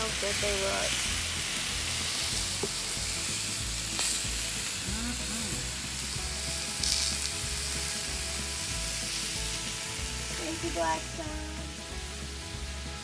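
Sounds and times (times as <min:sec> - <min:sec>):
sausages sizzling on a griddle: 0:00.0 - 0:13.0.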